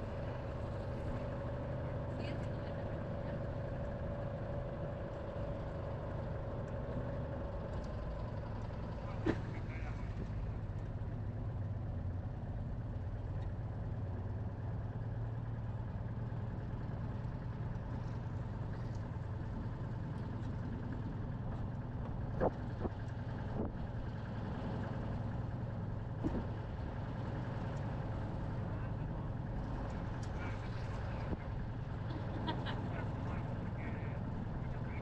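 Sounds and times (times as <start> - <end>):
car engine humming: 0.0 - 35.0.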